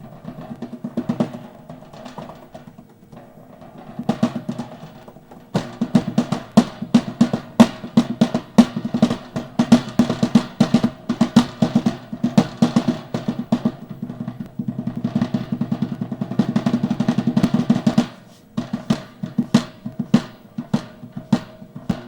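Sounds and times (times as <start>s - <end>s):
cajon slaps with snare buzz: 0.0s - 22.0s.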